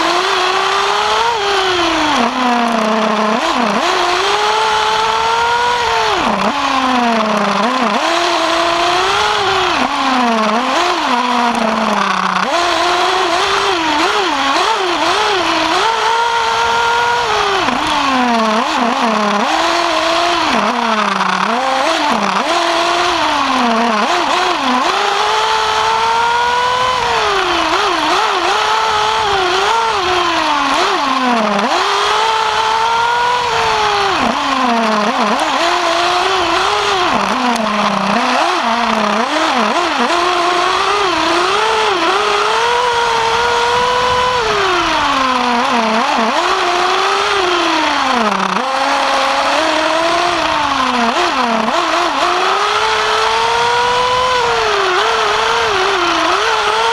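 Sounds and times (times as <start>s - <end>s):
model car nitro engine revving: 0.0s - 56.9s.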